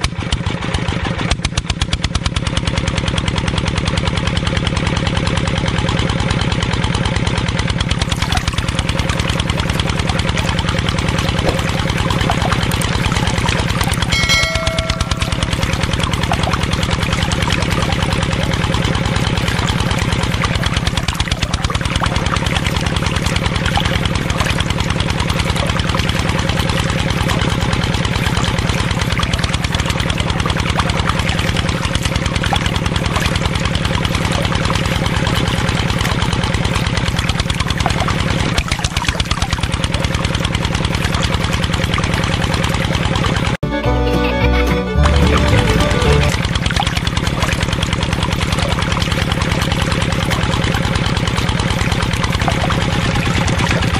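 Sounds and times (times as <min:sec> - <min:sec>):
small water pump motor buzzing: 0:00.0 - 0:43.6, 0:45.0 - 0:53.9.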